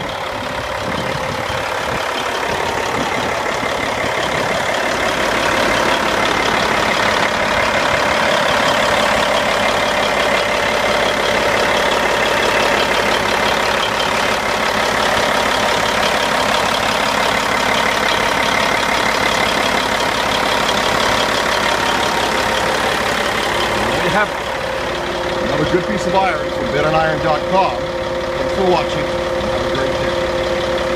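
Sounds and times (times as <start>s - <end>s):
diesel truck engine idling: 0.0s - 30.9s.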